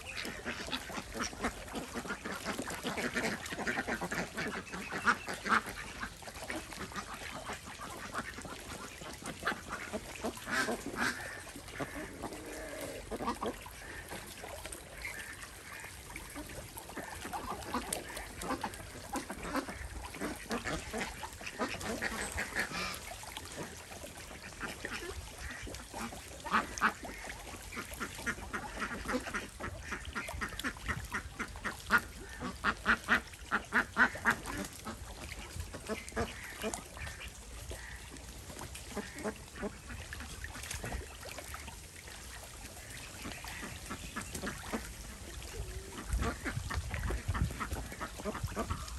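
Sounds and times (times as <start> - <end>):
ducks quacking: 0.0 - 48.9.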